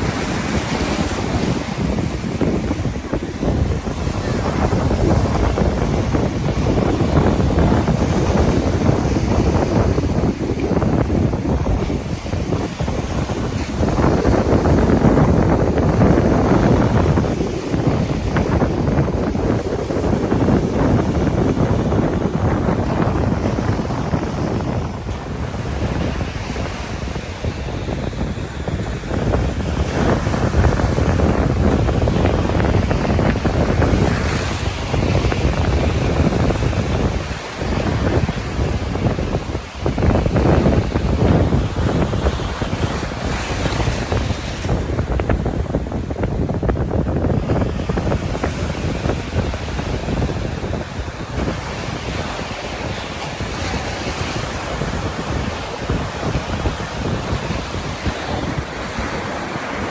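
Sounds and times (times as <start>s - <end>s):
surf breaking: 0.0s - 59.9s
wind buffeting microphone: 0.0s - 59.9s.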